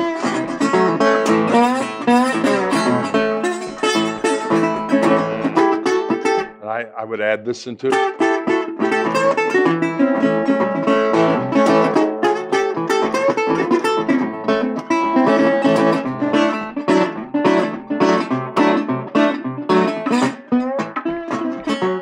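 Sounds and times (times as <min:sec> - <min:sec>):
slide guitar blues: 0:00.0 - 0:22.0.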